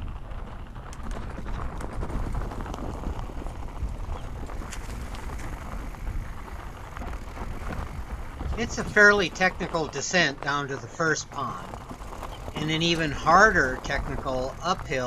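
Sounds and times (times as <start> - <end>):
bike rattling: 0.0 - 15.0
bike tyres crunching over rocks: 0.0 - 15.0
steady low rumble: 0.0 - 15.0.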